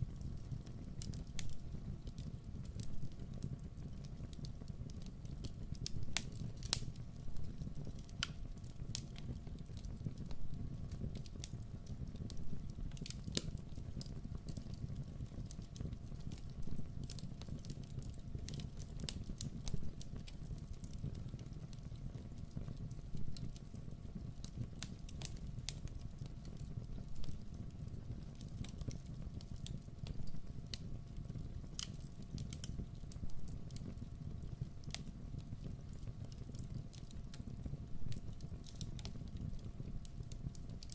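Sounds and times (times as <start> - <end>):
low fire rumble: 0.0 - 40.9
wood fire crackling: 0.0 - 40.9.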